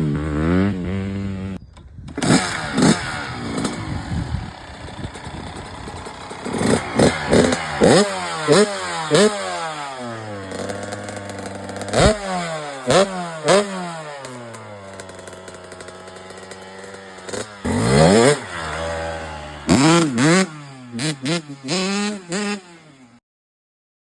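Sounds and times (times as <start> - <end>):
dirt bike engine revving: 0.0 - 23.2.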